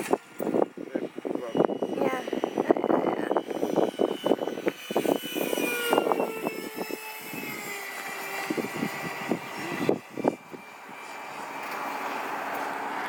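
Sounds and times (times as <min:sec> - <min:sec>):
wind buffeting microphone: 0:00.0 - 0:11.5
electric ducted fan whine: 0:00.0 - 0:13.0.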